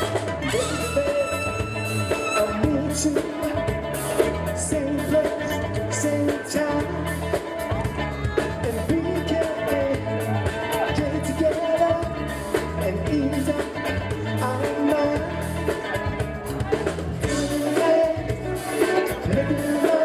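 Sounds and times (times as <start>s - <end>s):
live band playing disco-funk: 0.0s - 20.0s
person singing: 0.0s - 20.0s.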